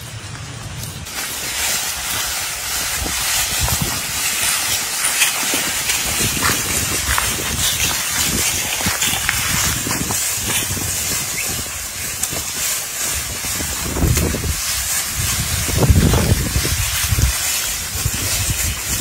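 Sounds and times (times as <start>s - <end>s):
steady high hiss: 0.0s - 19.0s
wind buffeting microphone: 0.9s - 19.0s.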